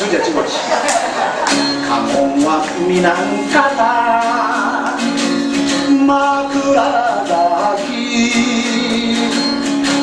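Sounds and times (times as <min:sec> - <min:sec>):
strummed acoustic guitar: 0:00.6 - 0:10.0
man singing slowly: 0:01.8 - 0:10.0.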